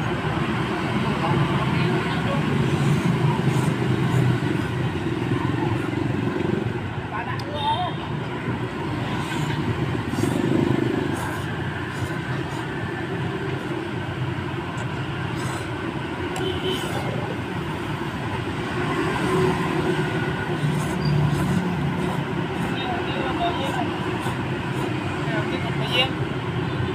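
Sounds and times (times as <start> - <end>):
motorbikes passing: 0.0 - 26.9
street traffic hum: 0.0 - 26.9.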